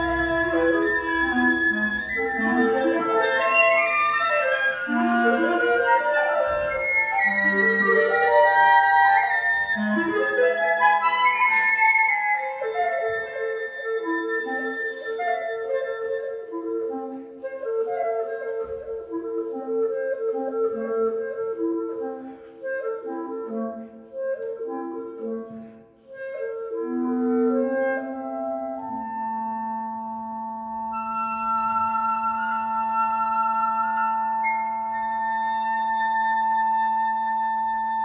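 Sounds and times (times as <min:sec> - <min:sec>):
high flute line: 0:00.0 - 0:38.0
woodwind trio playing: 0:00.0 - 0:38.0.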